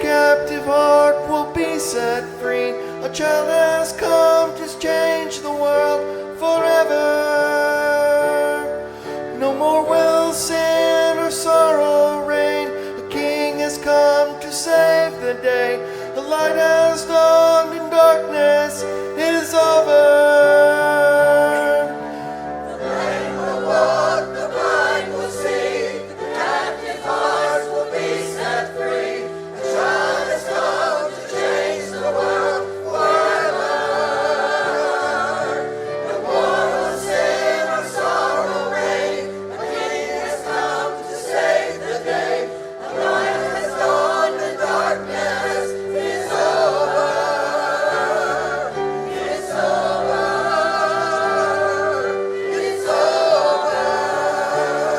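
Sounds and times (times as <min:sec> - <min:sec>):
choir singing with accompaniment: 0:00.0 - 0:54.9.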